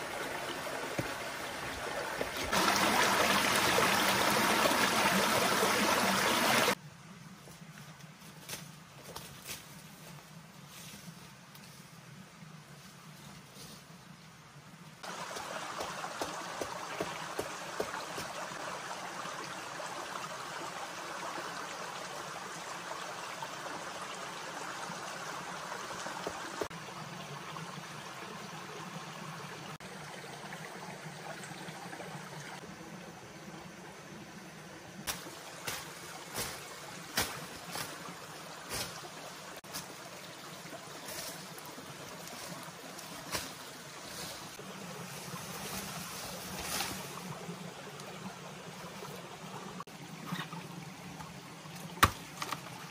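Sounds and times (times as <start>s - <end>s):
rushing running water: 0.0s - 6.8s, 15.0s - 33.8s, 34.8s - 52.9s.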